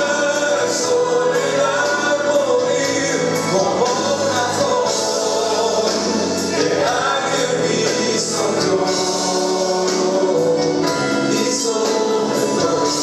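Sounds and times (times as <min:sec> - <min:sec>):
instrumental backing: 0:00.0 - 0:13.0
voices singing together: 0:00.0 - 0:13.0.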